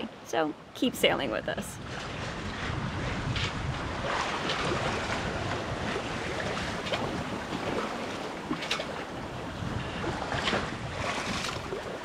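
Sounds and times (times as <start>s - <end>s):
water rushing along hull: 0.0s - 12.0s
wind buffeting microphone: 1.1s - 12.0s
water splashes: 1.8s - 12.0s.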